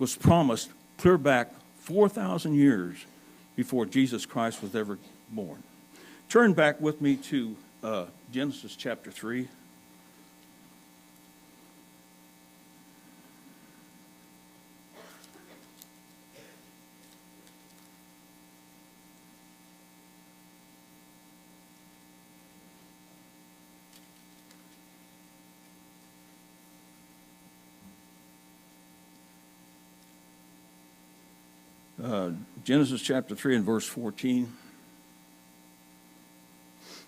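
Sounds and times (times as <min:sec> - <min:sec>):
low electrical mains hum: 0:00.0 - 0:37.0.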